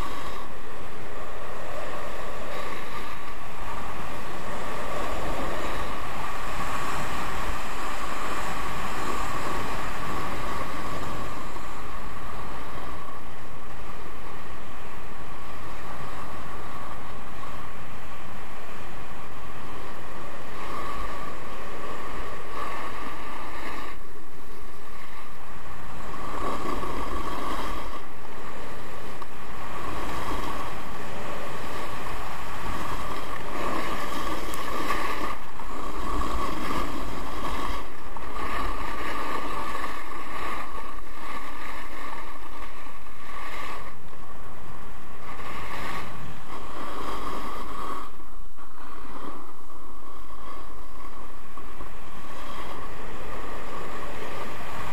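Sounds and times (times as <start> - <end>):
skis running on snow: 0.0 - 54.9
wind rushing over microphone: 0.0 - 54.9.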